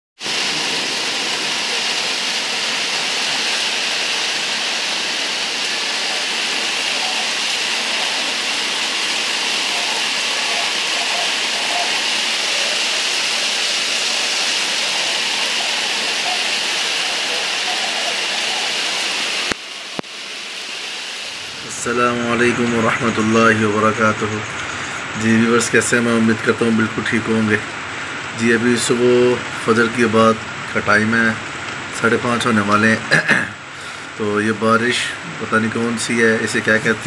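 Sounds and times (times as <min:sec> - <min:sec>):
rain on concrete: 0:00.2 - 0:37.0.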